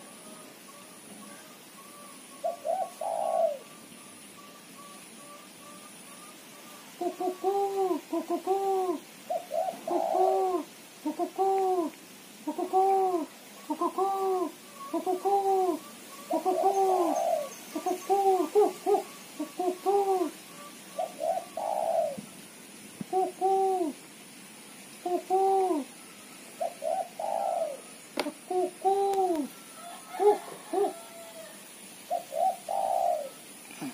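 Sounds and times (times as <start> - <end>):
dove cooing: 0.0 - 22.4, 23.0 - 24.0, 25.0 - 26.0, 26.6 - 31.5, 32.1 - 33.9.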